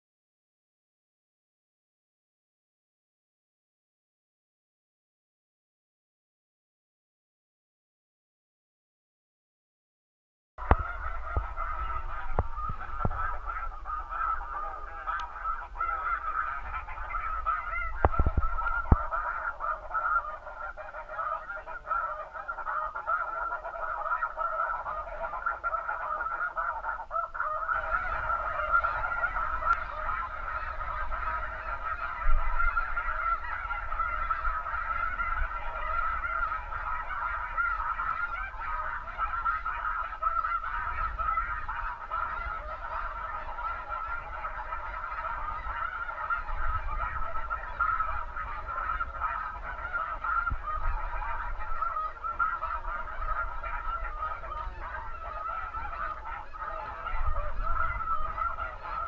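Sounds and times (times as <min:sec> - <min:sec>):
geese honking overhead: 0:10.6 - 0:59.0
wind rumbling on microphone: 0:10.6 - 0:59.0.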